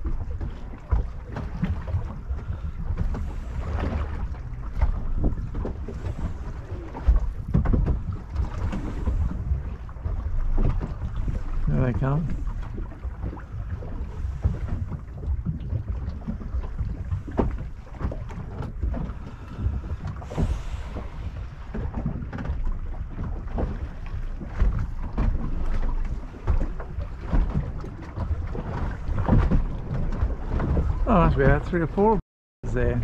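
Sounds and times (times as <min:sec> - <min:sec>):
water slapping boat hull: 0:00.0 - 0:33.0
wind rumbling on microphone: 0:00.0 - 0:33.0.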